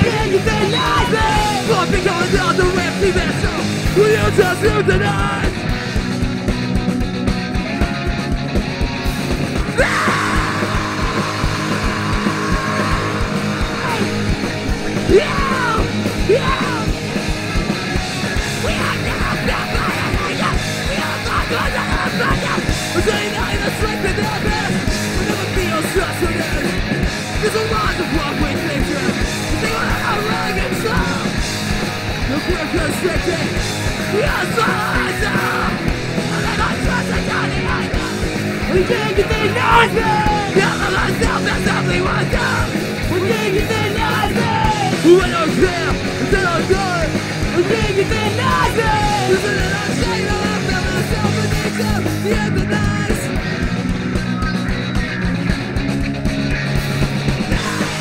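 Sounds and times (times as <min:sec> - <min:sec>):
punk rock band playing live: 0:00.0 - 0:58.0.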